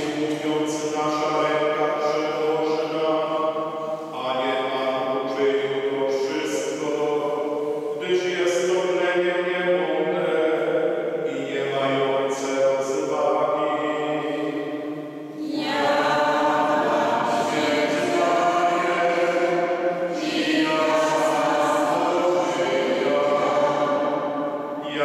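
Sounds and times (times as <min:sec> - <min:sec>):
priest chanting: 0:00.0 - 0:25.0.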